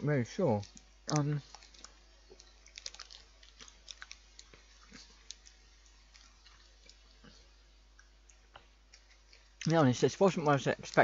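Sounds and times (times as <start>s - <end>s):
chewing crunchy biscuit: 0.6s - 11.0s.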